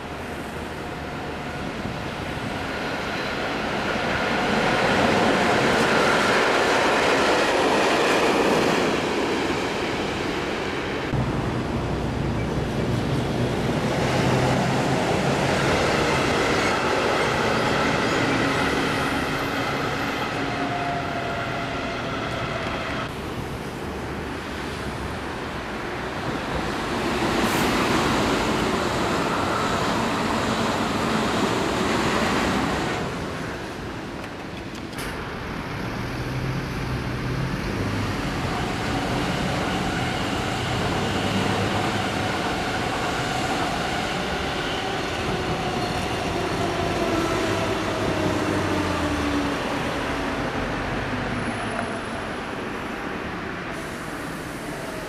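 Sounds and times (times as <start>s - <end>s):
high-speed train passing: 0.0s - 55.0s
train wheels rumbling on rails: 0.9s - 52.3s.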